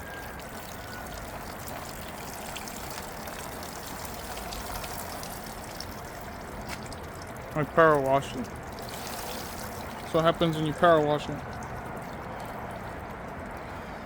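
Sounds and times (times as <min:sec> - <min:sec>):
water trickling out of engine: 0:00.0 - 0:14.0.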